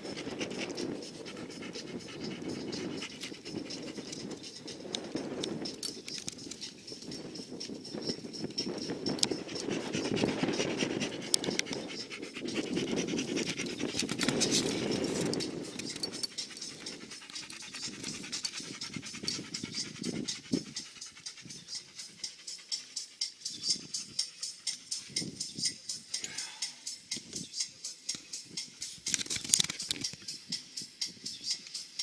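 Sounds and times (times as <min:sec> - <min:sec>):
dog panting: 0:00.0 - 0:26.0.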